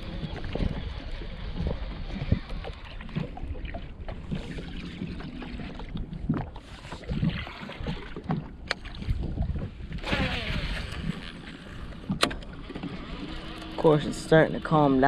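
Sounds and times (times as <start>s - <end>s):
rush of water: 0.0s - 15.0s
waves lapping against boat hull: 0.0s - 15.0s
wind on microphone: 0.0s - 15.0s.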